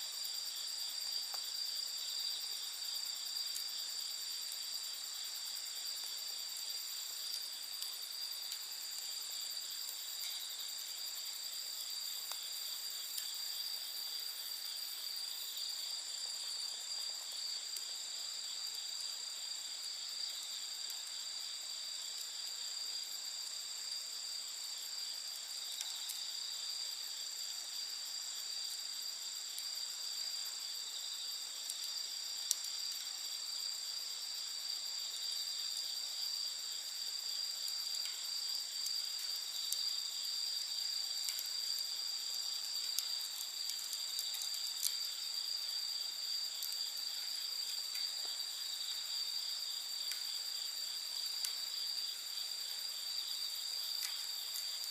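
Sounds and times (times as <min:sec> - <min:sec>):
bonfire crackles: 0:00.0 - 0:54.9
night insects trilling: 0:00.0 - 0:54.9.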